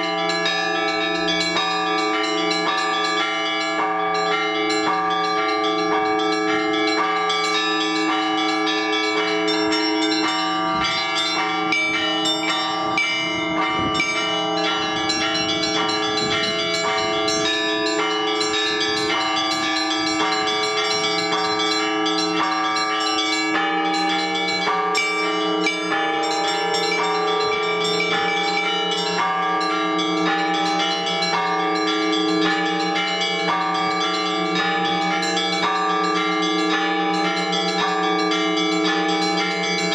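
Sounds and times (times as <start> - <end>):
deep bell: 0.0 - 39.9
large bells ringing: 0.0 - 39.9
small bells chiming quickly: 0.0 - 39.9.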